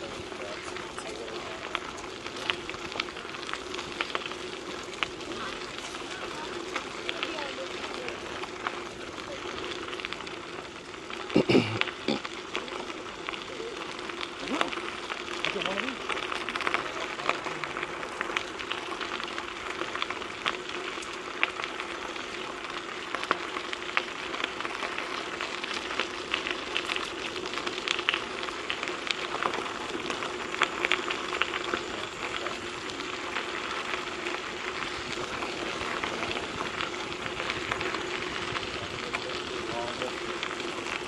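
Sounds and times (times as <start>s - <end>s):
bike tyres crunching on gravel: 0.0s - 41.0s.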